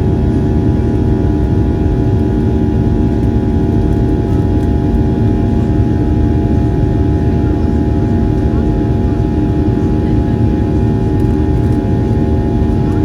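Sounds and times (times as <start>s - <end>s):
jet engine cabin drone: 0.0s - 13.0s.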